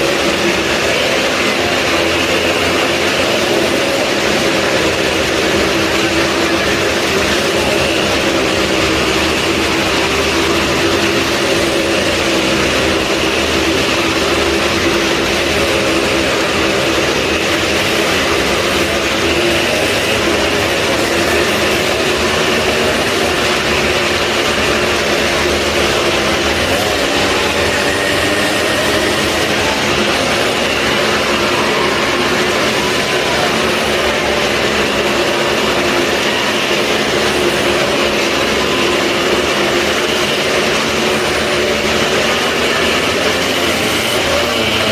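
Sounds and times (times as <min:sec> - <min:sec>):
motorcycle engines revving high: 0:00.0 - 0:44.9.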